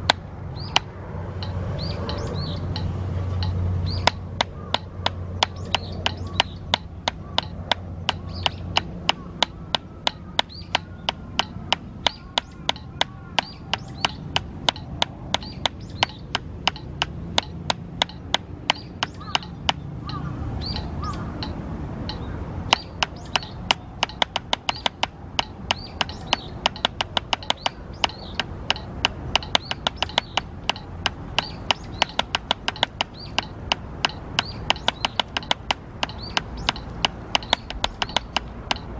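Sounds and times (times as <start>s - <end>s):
drumsticks striking practice pad: 0.0s - 38.9s.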